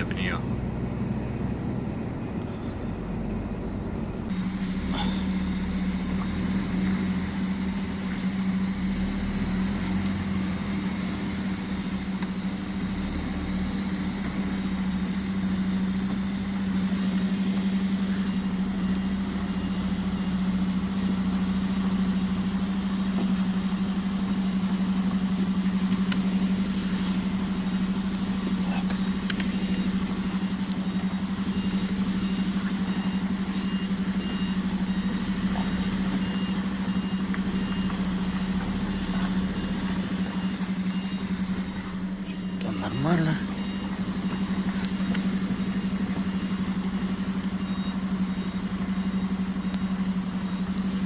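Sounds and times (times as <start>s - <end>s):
truck engine and road noise: 0.0s - 51.0s.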